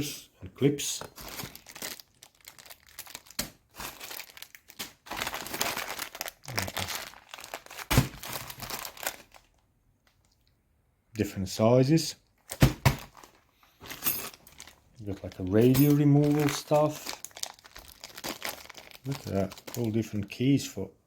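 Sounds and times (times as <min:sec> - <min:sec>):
plastic packaging crinkling: 0:01.0 - 0:10.5, 0:12.4 - 0:20.5.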